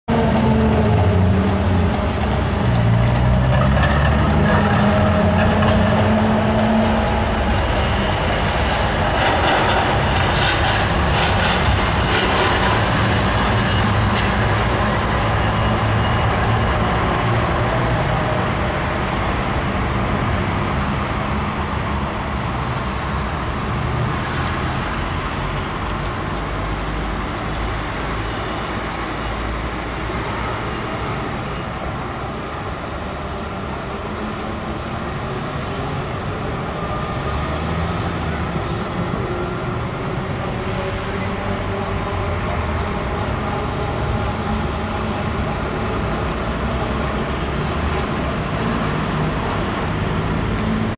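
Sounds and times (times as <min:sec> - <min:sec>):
tram hum: 0:00.1 - 0:50.9
tram wheels rumbling on rails: 0:00.1 - 0:50.9.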